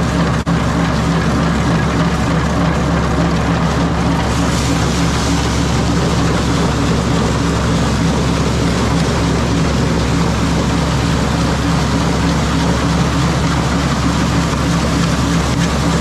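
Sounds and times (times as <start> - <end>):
grinder-mixer mechanical noise: 0.0 - 16.0
tractor diesel engine running: 0.0 - 16.0.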